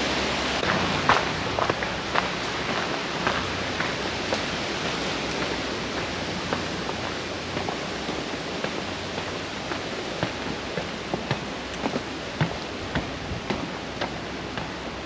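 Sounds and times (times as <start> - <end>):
steady rushing hiss: 0.0 - 15.0
footsteps on a trail: 0.6 - 15.0.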